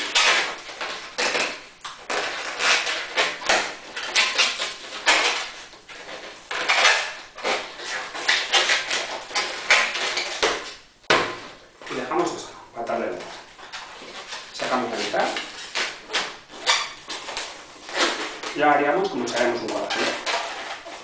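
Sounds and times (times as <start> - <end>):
balloon squeaking and rubbing: 0.0 - 21.0.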